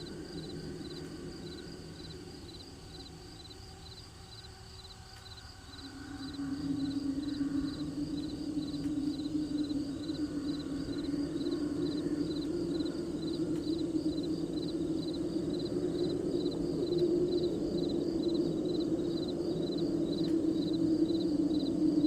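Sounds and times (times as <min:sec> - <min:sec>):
crickets chirping: 0:00.0 - 0:22.0
low steady drone: 0:00.0 - 0:22.0.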